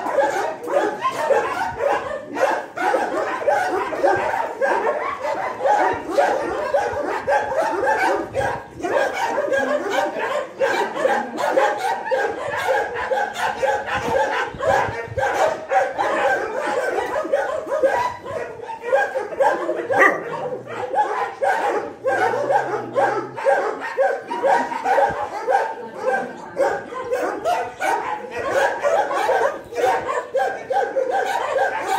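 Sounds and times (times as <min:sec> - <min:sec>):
dogs barking and yipping: 0:00.0 - 0:31.9.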